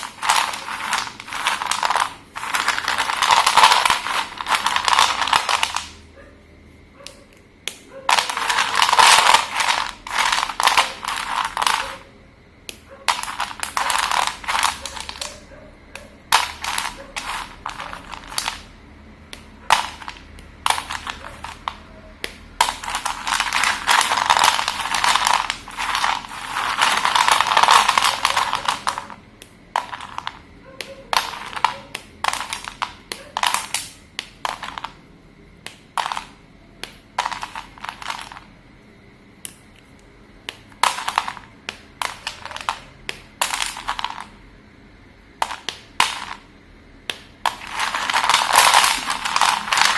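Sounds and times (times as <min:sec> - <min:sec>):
slate pencils crunching: 0:00.0 - 0:06.0, 0:08.1 - 0:12.1, 0:13.0 - 0:30.5, 0:31.1 - 0:35.0, 0:36.0 - 0:38.4, 0:40.6 - 0:44.3, 0:47.1 - 0:49.9.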